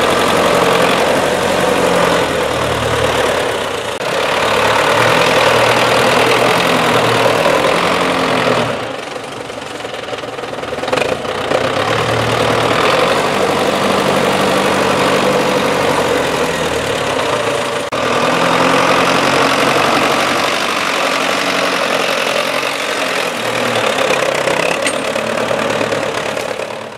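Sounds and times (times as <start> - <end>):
tractor diesel engine under load: 0.0 - 26.9.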